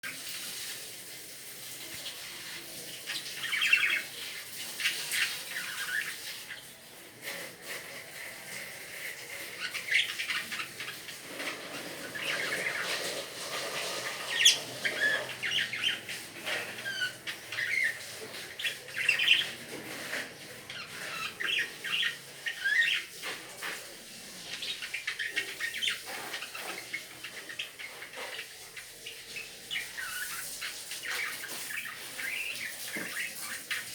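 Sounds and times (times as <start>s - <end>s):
lovebirds chirping and squawking: 1.9s - 33.9s.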